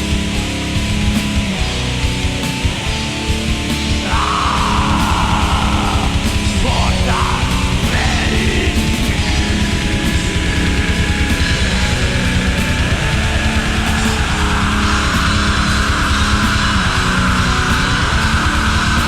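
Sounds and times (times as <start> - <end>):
distorted guitars: 0.0 - 19.0
fast drumming: 0.0 - 19.0
harsh shrieked vocals: 3.6 - 19.0.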